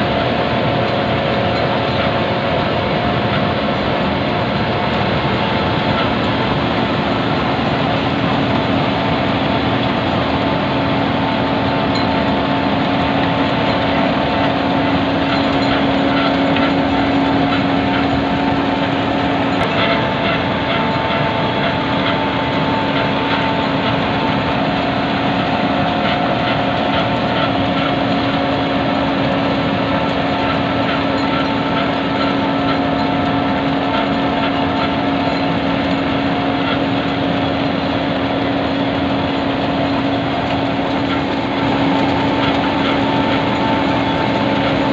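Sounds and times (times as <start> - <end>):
diesel engine hum: 0.0 - 44.9
milling drum grinding: 0.0 - 44.9.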